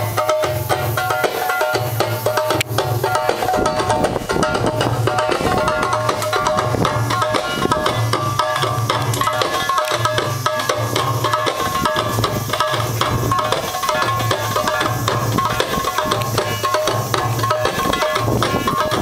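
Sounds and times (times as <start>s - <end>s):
hand drums beating: 0.0s - 19.0s.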